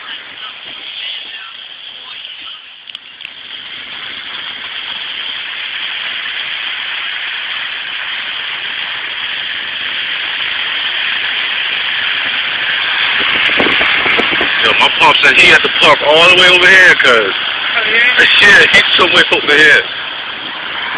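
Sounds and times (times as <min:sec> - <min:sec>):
car tyres hissing on wet road: 0:00.0 - 0:20.9.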